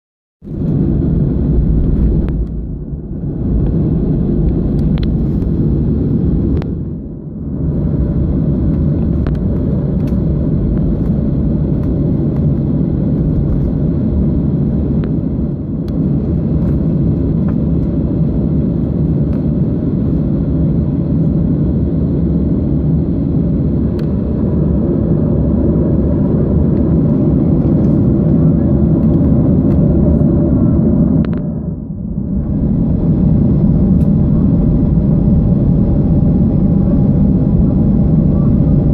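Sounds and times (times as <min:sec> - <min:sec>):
jet engine low rumble: 0:00.4 - 0:38.9.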